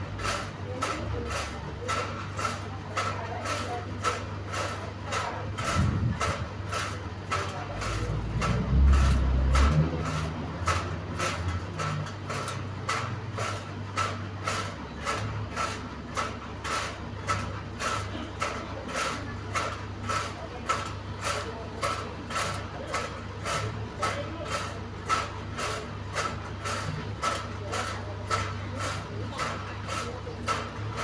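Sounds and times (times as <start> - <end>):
fan humming: 0.0 - 31.0.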